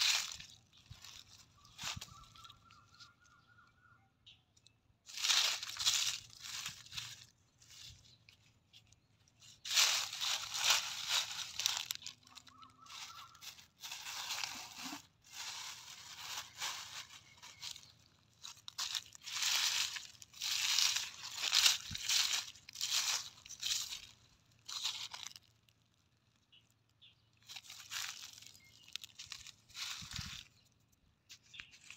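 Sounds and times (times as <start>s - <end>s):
dry leaves crunching and rustling: 0.0s - 3.2s, 5.0s - 31.9s.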